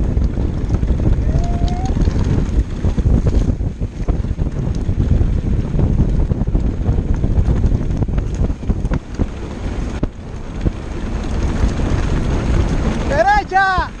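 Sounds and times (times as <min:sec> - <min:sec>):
bike rattling and knocking: 0:00.0 - 0:14.0
bike tyres rolling on dirt: 0:00.0 - 0:14.0
wind buffeting microphone: 0:00.0 - 0:14.0.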